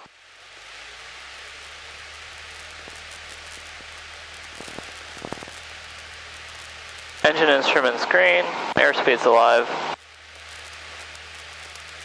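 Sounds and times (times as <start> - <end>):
aircraft engine at full power: 0.0 - 12.0.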